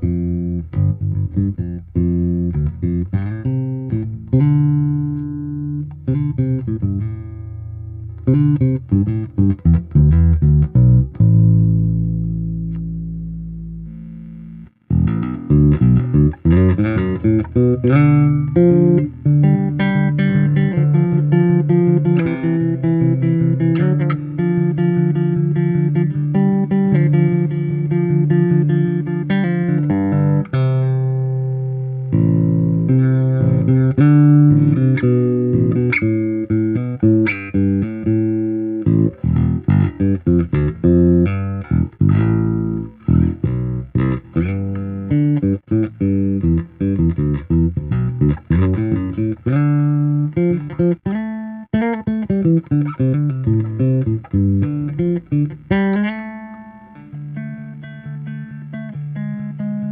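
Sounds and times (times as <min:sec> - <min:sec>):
electric bass guitar plucked: 0:00.0 - 0:59.9.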